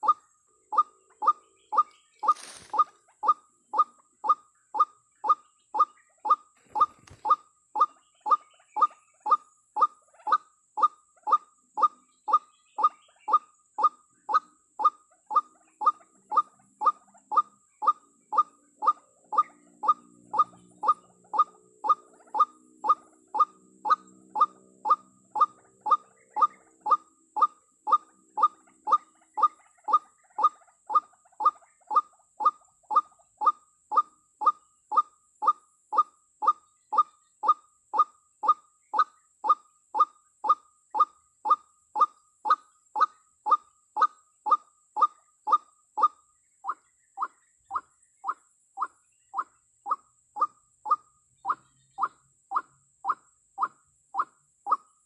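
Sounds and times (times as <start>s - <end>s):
waterhen calling: 0.0s - 54.9s.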